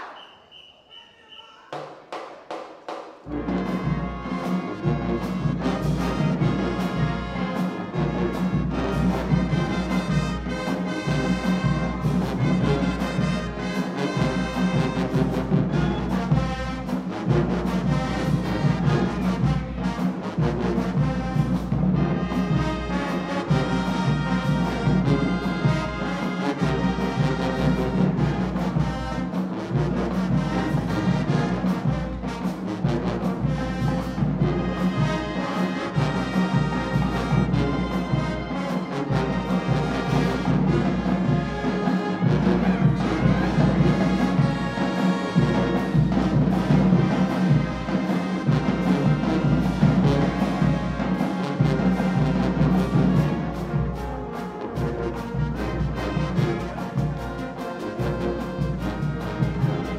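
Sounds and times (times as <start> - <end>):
steady drum beat: 1.6 - 59.9
sousaphones trombones and trumpets: 3.2 - 59.9.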